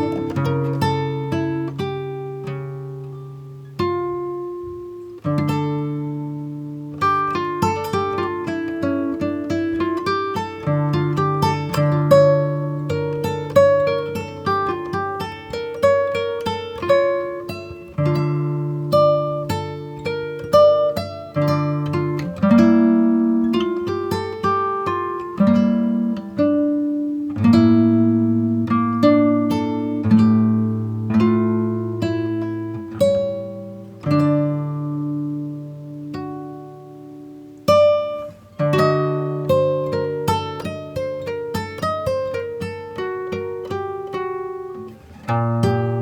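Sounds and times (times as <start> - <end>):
acoustic guitar picking: 0.0 - 46.0.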